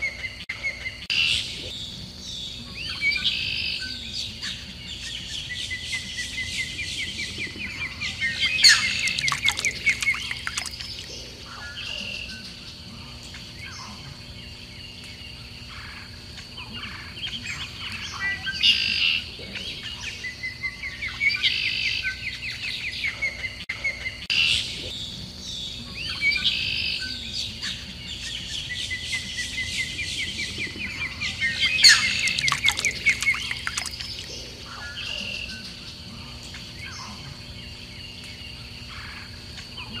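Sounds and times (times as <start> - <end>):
songbirds chirping and singing: 0.0 - 40.0.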